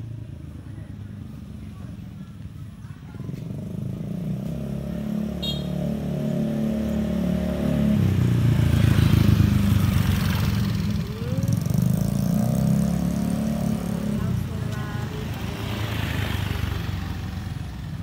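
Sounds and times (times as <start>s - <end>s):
vehicle engine passing: 3.3s - 18.0s.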